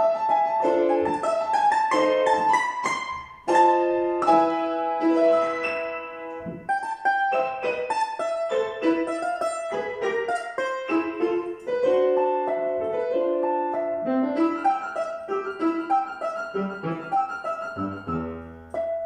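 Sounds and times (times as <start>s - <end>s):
piano playing: 0.0s - 19.0s.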